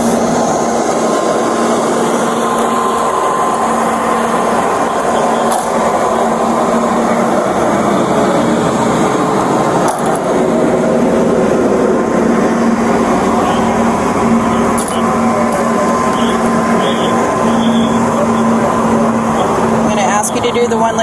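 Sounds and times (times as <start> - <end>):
constant hum: 0.0 - 21.0
vehicles passing: 0.0 - 21.0.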